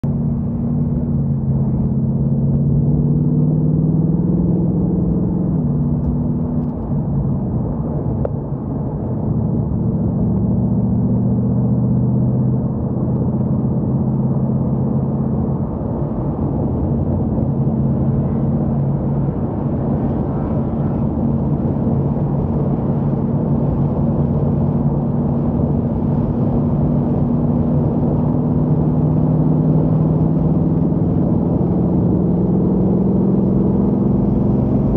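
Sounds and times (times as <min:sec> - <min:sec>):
car engine from inside cabin: 0:00.0 - 0:34.9
road and wind hiss: 0:00.1 - 0:34.9.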